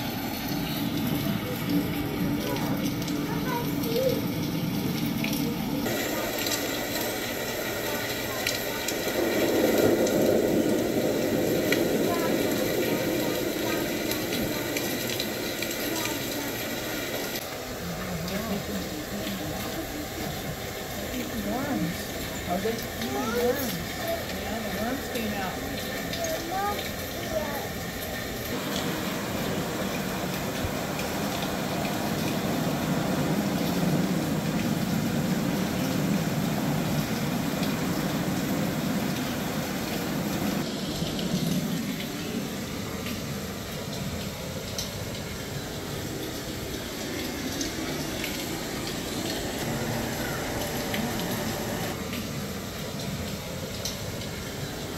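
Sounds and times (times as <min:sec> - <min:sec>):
waterfall pouring into pool: 0:00.0 - 0:54.9.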